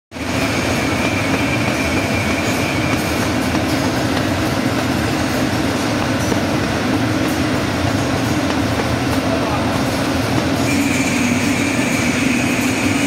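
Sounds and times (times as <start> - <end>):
low mechanical drone: 0.2 - 13.0.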